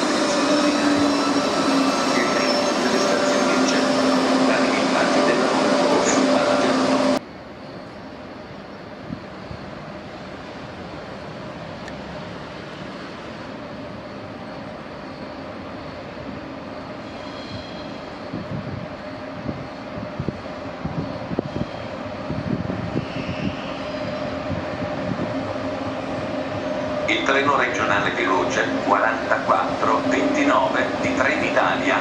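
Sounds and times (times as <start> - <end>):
train mechanical hum: 0.0 - 32.0.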